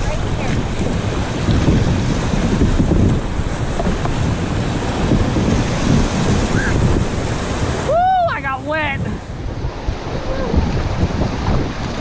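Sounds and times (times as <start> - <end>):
river rapids rushing: 0.0 - 12.0
wind buffeting microphone: 0.0 - 12.0.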